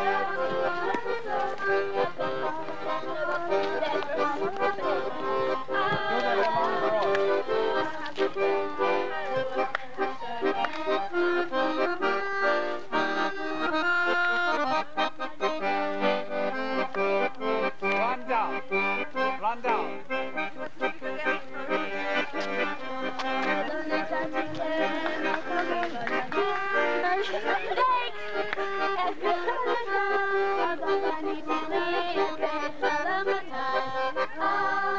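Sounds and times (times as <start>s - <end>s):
accordion folk dance tune: 0.0s - 34.9s.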